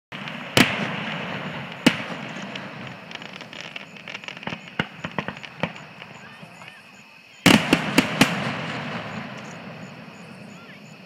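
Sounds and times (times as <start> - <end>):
small fireworks pops: 0.1 - 10.8
fireworks crackling: 0.1 - 11.0.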